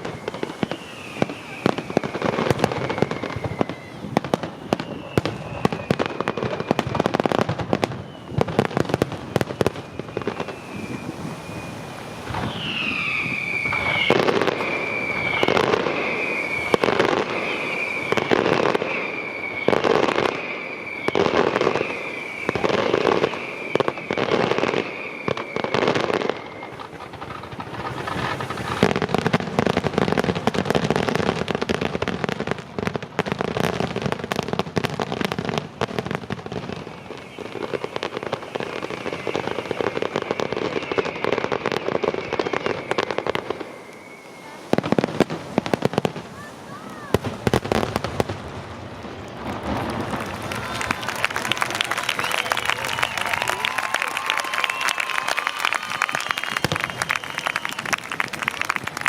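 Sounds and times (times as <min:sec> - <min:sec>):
firework bangs with whistles: 0:00.0 - 0:59.0
firework crackling pops: 0:00.0 - 0:59.0.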